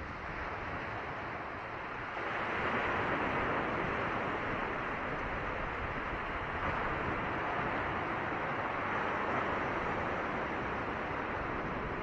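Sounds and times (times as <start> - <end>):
surf washing over rocky shore: 0.1 - 12.0.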